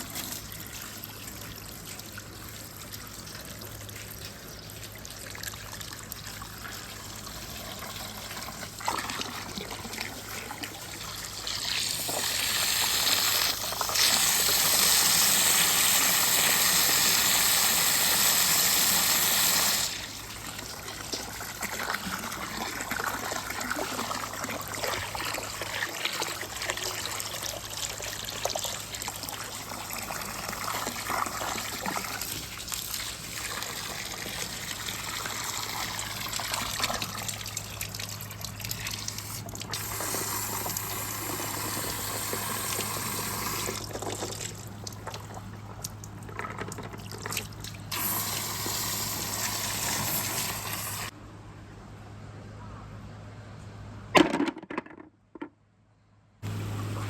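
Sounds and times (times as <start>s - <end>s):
water trickling down marble run: 0.0s - 17.6s, 19.9s - 48.0s.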